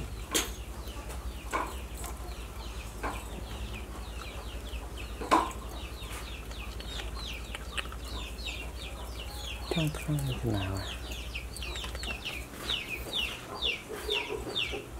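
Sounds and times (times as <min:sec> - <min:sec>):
porcupine gnawing pumpkin: 0:01.0 - 0:13.0.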